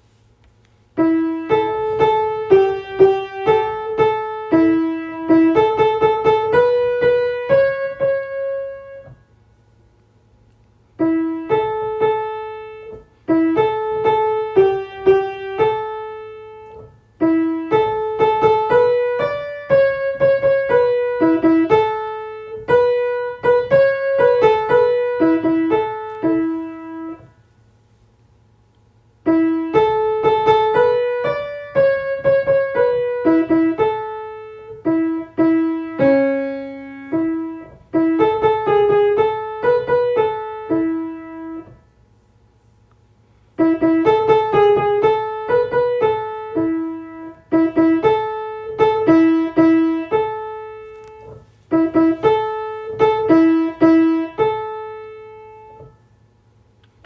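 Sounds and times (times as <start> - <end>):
piano playing melody over chords: 1.0 - 9.2, 11.0 - 27.3, 29.3 - 41.8, 43.6 - 56.0.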